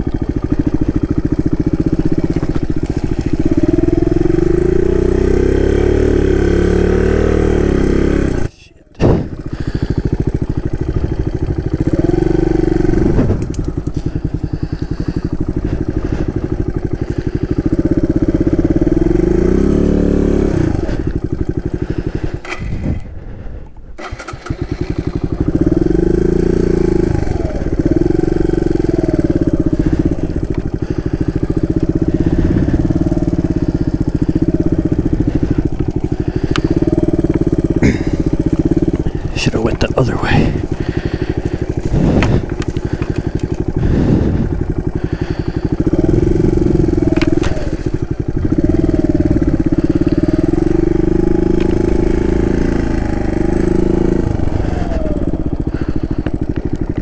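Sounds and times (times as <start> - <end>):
motorcycle engine revving under load: 0.0 - 57.0.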